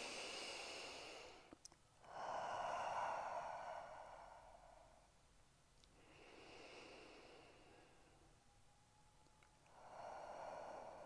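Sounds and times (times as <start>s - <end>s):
person breathing deeply: 0.0s - 5.2s, 5.9s - 8.4s, 9.6s - 11.0s.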